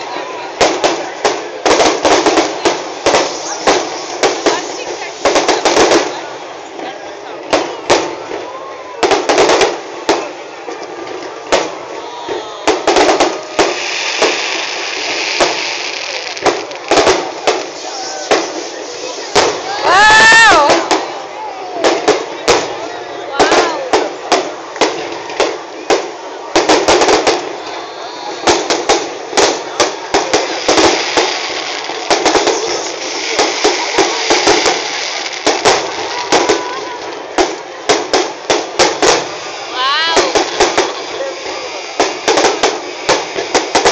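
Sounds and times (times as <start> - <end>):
background noise: 0.0 - 43.9
fireworks bangs: 0.0 - 43.9.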